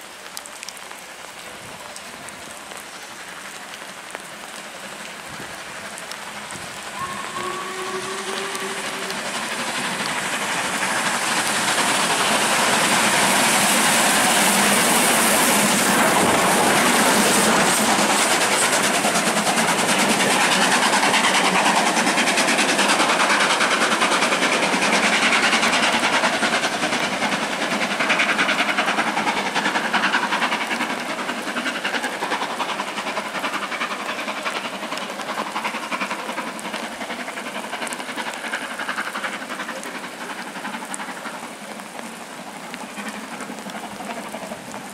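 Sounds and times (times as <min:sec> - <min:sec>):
steam locomotives working: 0:00.0 - 0:44.9
steam hissing: 0:01.0 - 0:44.9.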